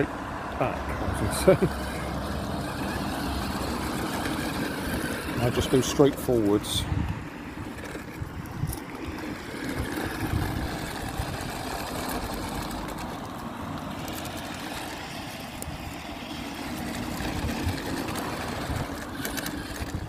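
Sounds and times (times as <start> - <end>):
tyres rolling over gravel: 0.6 - 20.0
toy truck electric motor whining: 0.8 - 20.0.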